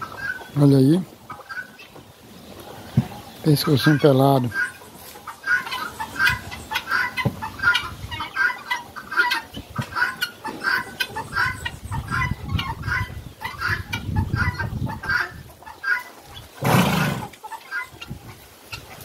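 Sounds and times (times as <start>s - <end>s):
chicken clucking: 0.0s - 19.0s.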